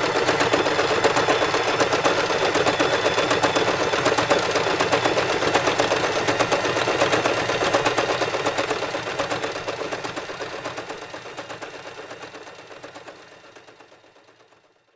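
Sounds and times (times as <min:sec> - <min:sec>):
sewing machine stitching: 0:00.0 - 0:13.8.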